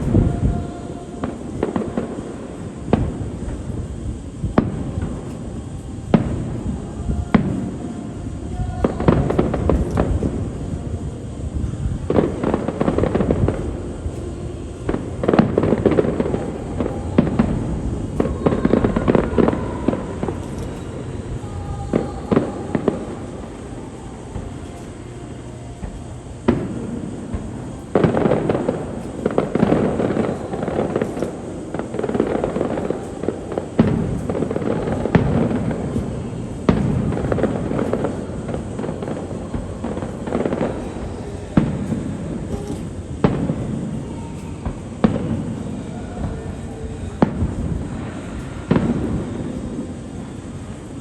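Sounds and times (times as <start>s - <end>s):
firework crackling: 0.0s - 51.0s
firework shell bursts: 0.0s - 51.0s.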